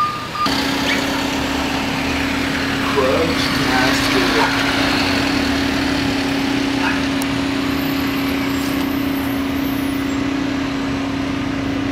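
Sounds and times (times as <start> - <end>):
street noise: 0.0 - 11.9
truck engine humming: 0.0 - 11.9.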